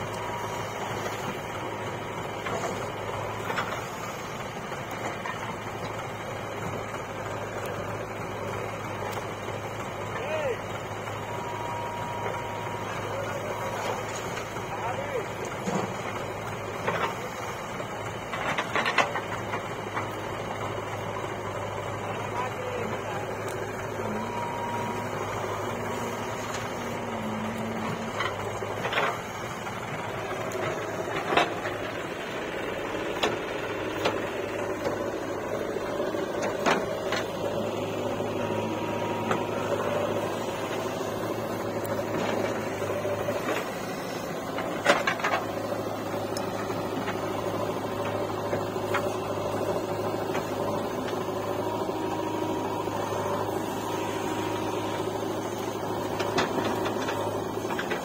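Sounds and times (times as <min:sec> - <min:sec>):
diesel engine running under load: 0:00.0 - 0:58.0
steady whine: 0:00.0 - 0:58.0.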